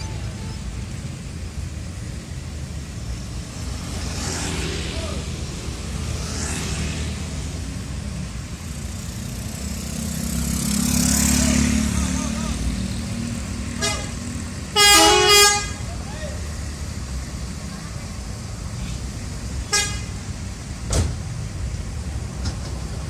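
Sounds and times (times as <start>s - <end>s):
vehicles rushing by: 0.0s - 23.0s.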